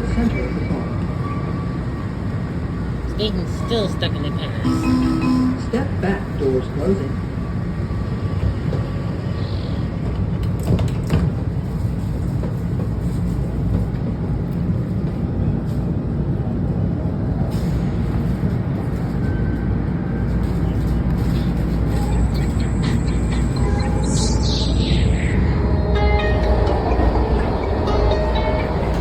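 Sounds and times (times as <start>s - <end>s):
wheels rumbling on rail: 0.0s - 29.0s.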